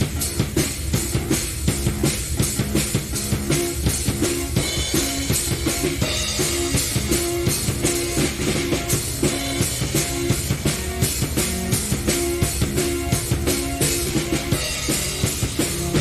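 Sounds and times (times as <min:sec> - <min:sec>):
busy rock drumming: 0:00.0 - 0:16.0
keyboard held notes: 0:00.0 - 0:16.0.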